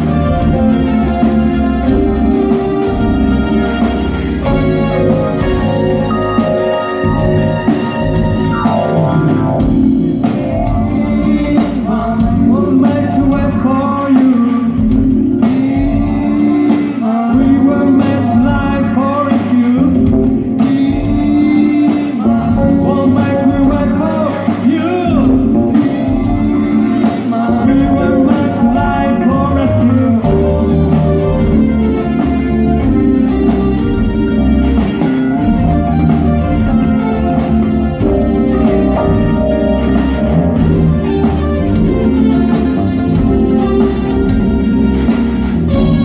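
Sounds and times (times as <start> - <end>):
person singing: 0.0 - 46.0
rock band playing: 0.0 - 46.0.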